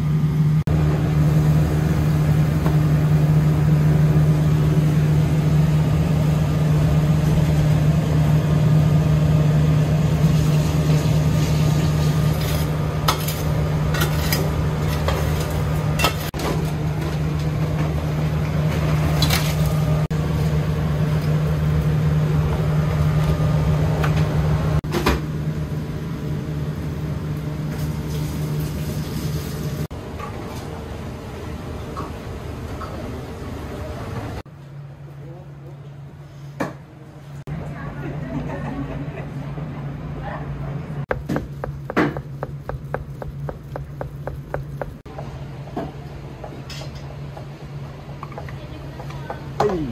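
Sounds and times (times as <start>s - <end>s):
ventilation fan humming: 0.0s - 49.9s.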